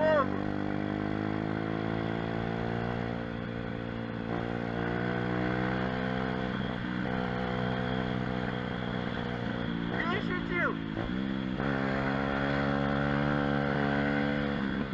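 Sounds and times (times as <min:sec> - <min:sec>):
pit bike engine running: 0:00.0 - 0:14.9.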